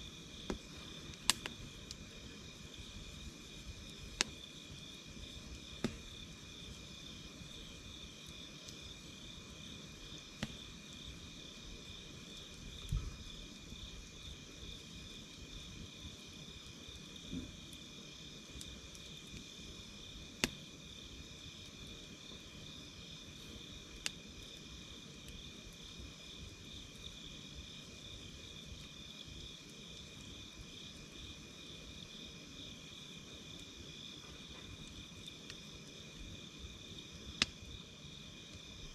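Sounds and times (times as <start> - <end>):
campfire crackling pops: 0.0 - 38.9
crickets chirping: 0.0 - 38.9.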